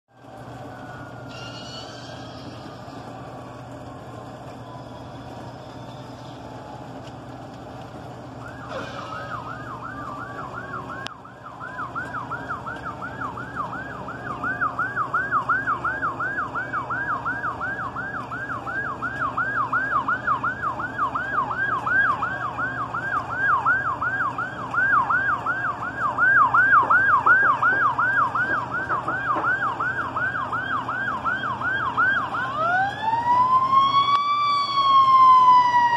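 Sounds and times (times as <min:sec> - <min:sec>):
faint falling siren wail: 0:00.1 - 0:35.9
fire engine siren yelp: 0:00.1 - 0:35.9.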